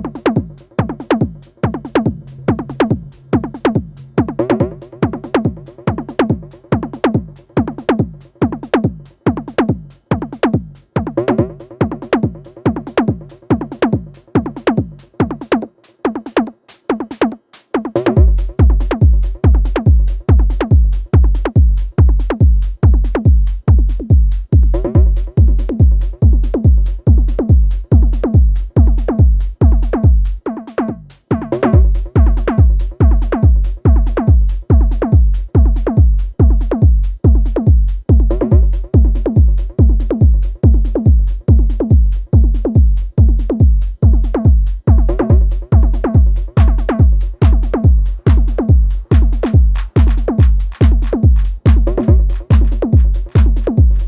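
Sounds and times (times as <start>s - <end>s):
deep kick drum: 0.0s - 15.5s, 18.0s - 54.0s
drum machine pattern: 0.0s - 54.0s.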